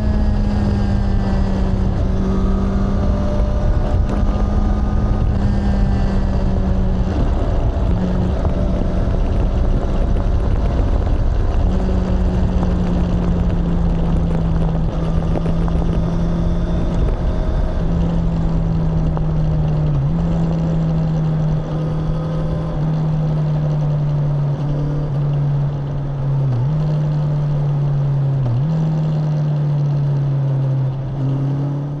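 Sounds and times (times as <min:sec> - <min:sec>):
heavy low rumble: 0:00.0 - 0:32.0
motorcycle engine and exhaust: 0:00.0 - 0:32.0.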